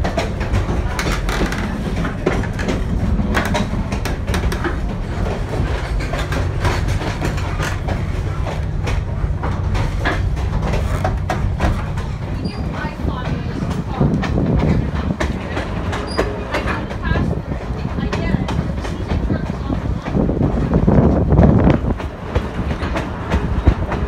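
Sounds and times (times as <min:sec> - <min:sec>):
train coach rumble: 0:00.0 - 0:24.0
wheels and couplings clacking: 0:00.0 - 0:24.0.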